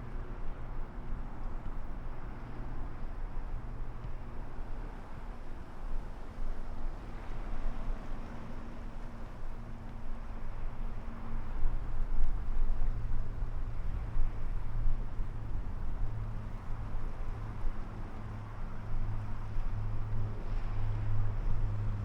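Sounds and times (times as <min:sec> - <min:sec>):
sea waves washing on shore: 0:02.1 - 0:22.0.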